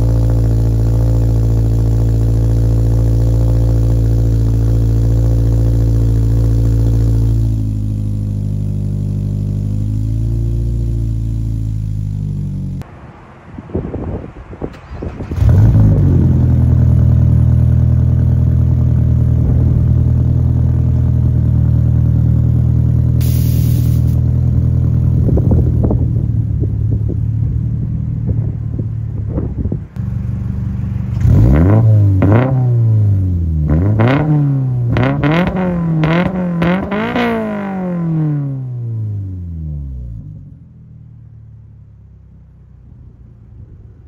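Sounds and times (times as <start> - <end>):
car engine idling: 0.0 - 13.2, 14.4 - 33.7, 35.2 - 44.0
car engine revving: 0.0 - 13.2, 14.7 - 29.4, 30.0 - 40.6.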